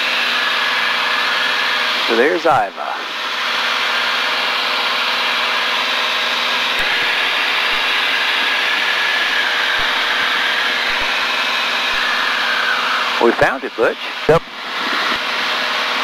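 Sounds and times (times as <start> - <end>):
light airplane cabin engine drone: 0.0 - 16.0.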